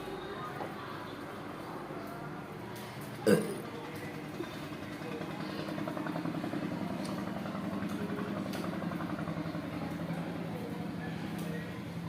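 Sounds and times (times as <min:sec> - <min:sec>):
engine idling: 0:01.1 - 0:12.0.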